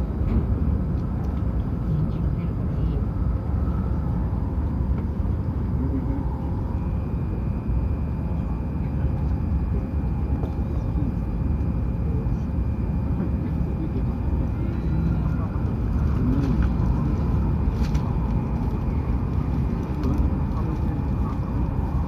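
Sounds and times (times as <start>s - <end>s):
train rumbling at speed: 0.0s - 22.0s.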